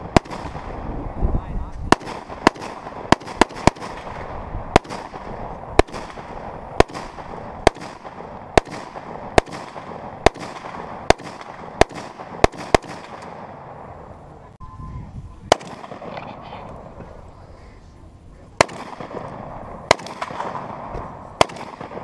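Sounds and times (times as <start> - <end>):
rifle shots with echo: 0.0 - 1.0, 1.9 - 14.1, 15.5 - 17.2, 18.6 - 22.0.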